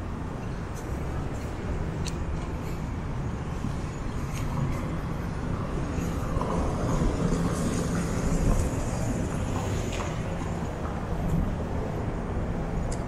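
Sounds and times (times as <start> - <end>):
low rumble of car traffic: 0.0 - 13.0.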